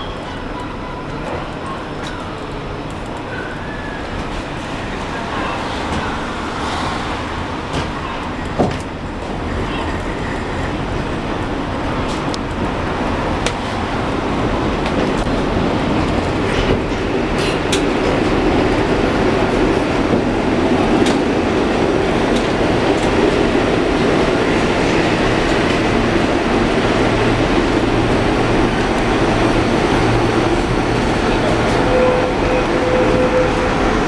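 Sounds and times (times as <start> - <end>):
tram wheels rumbling on rail: 0.0 - 34.0.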